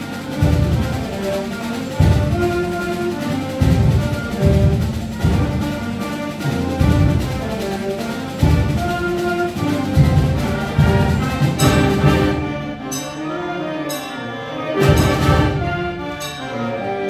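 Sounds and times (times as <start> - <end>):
concert band playing: 0.0 - 17.0.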